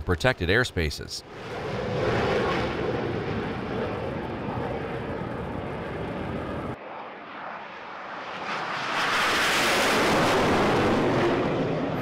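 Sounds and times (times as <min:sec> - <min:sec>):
jet passing overhead: 0:01.2 - 0:12.0.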